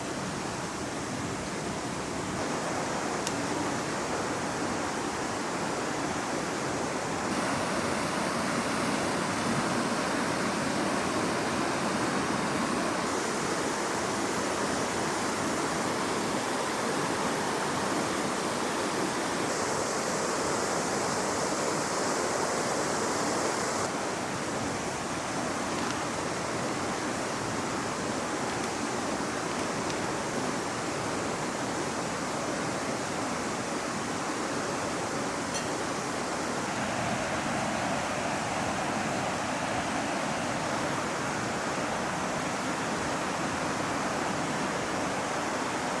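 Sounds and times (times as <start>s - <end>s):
fast-flowing river rushing: 0.0s - 46.0s.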